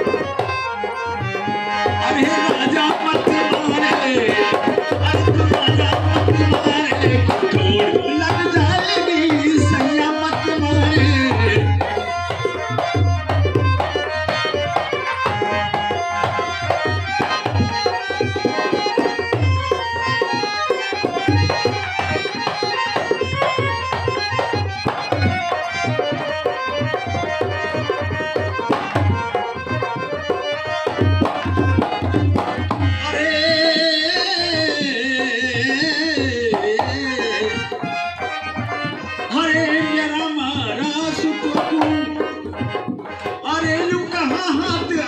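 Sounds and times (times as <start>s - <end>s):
hand drum rhythm: 0.0s - 45.0s
man singing into a microphone: 0.0s - 45.0s
reedy accordion-like accompaniment: 0.0s - 45.0s.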